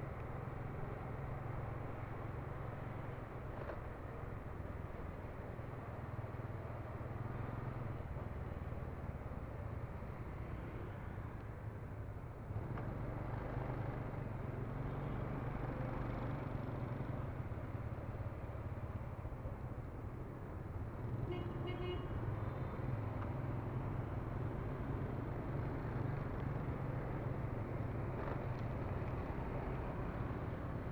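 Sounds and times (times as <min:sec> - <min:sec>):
motor vehicles rumbling: 0:00.0 - 0:30.9.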